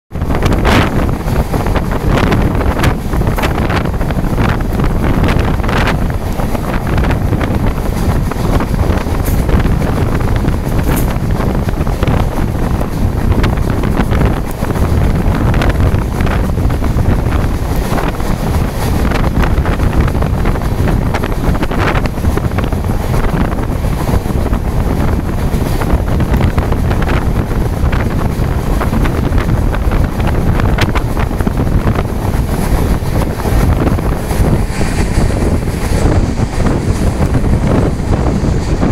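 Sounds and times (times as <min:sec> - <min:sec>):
heavy rain: 0:00.1 - 0:38.9
wind buffeting microphone: 0:00.1 - 0:38.9.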